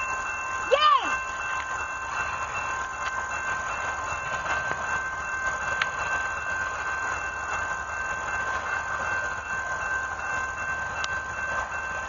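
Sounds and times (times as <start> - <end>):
distant freight train rumble: 0.0 - 12.0
high-pitched ringing tone: 0.0 - 12.0.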